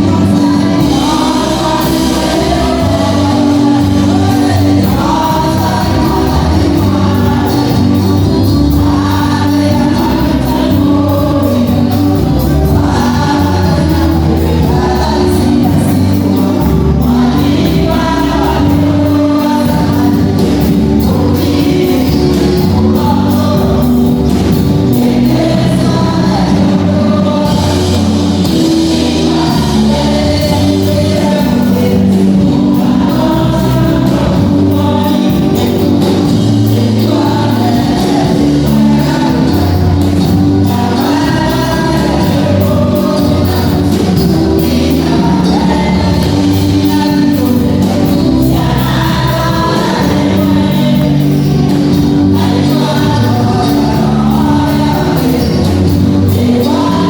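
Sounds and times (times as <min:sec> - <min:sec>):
gospel choir singing: 0:00.0 - 0:57.0
musical accompaniment: 0:00.0 - 0:57.0.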